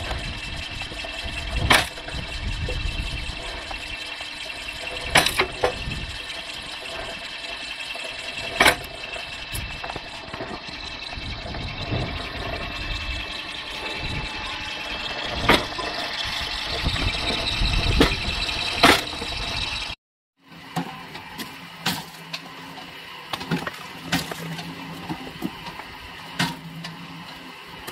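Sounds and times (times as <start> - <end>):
electric log splitter running: 0.0 - 27.9.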